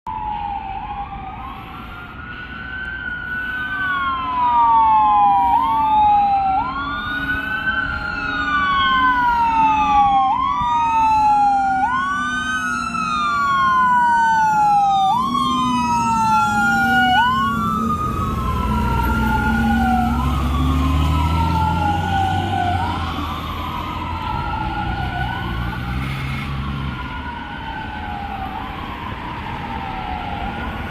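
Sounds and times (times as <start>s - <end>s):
fire engine siren wailing: 0.1s - 30.9s.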